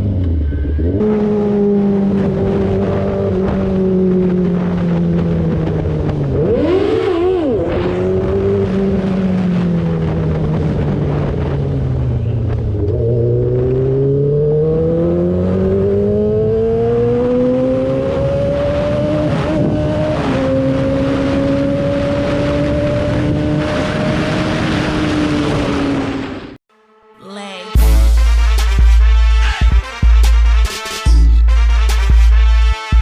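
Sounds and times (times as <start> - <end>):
motorcycle engine revving: 0.0 - 26.6.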